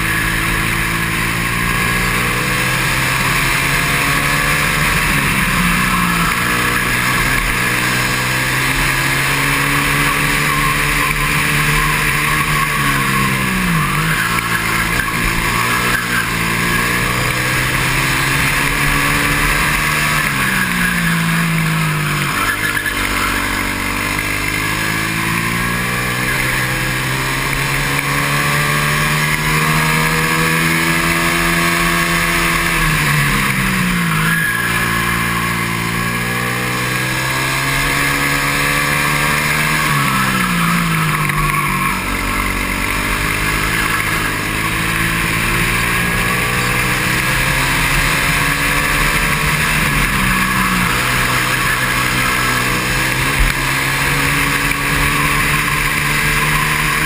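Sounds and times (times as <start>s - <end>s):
kart engine at full throttle: 0.0s - 57.0s.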